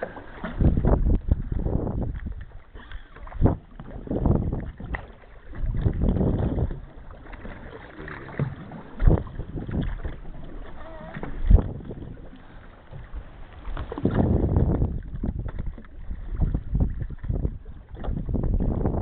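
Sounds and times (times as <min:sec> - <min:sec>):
water slapping against boat hull: 0:00.0 - 0:19.0
wind on microphone: 0:00.0 - 0:19.0.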